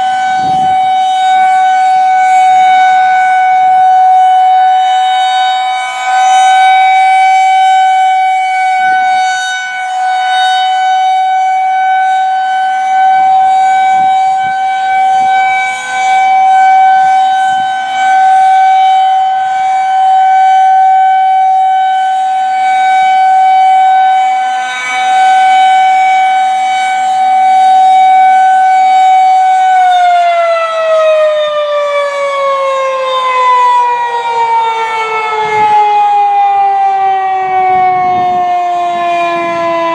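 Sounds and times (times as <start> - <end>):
rotating warning siren tone: 0.0 - 39.9.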